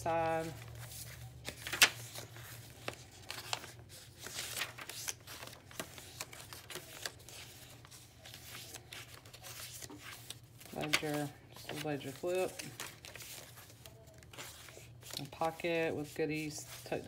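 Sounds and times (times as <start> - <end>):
paper pages rustling: 0.0 - 17.0
light ticks of pages: 1.0 - 15.4.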